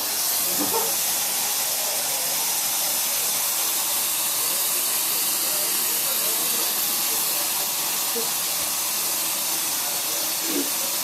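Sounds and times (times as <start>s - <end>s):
faucet water rushing into sink: 0.0s - 11.0s.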